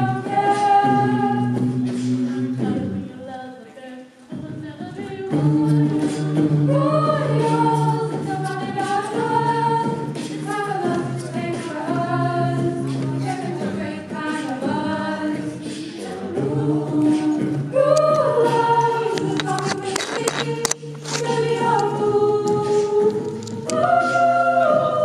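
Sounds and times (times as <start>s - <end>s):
group singing in harmony: 0.0s - 3.6s, 4.9s - 25.0s.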